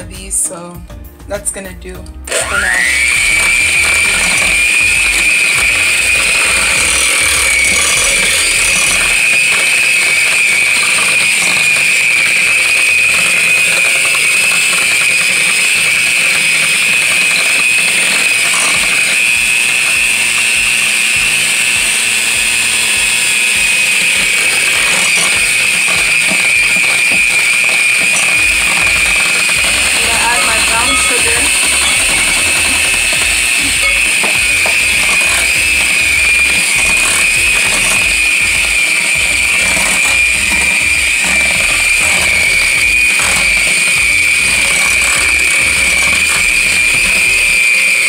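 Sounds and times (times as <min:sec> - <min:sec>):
electric hand mixer whining: 0:00.0 - 0:48.0.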